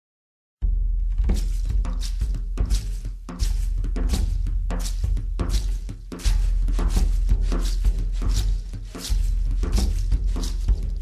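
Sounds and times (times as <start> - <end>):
music with heavy bass: 1.0 - 11.0.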